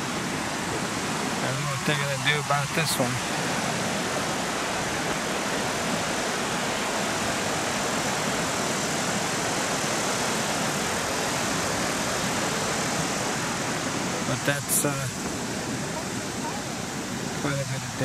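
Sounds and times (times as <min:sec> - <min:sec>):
creek rushing: 0:00.0 - 0:18.0.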